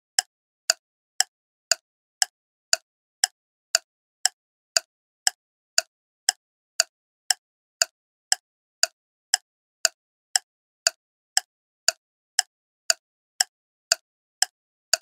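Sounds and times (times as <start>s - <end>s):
ticking clock: 0.2s - 15.0s.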